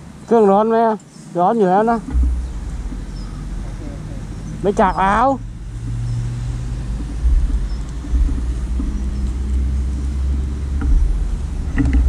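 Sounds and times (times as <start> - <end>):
motorcycle engine idling: 1.8 - 12.0.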